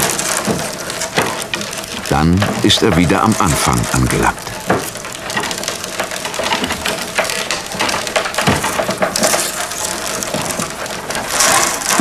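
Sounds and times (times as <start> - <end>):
willow rods creaking and rustling: 0.0 - 12.0.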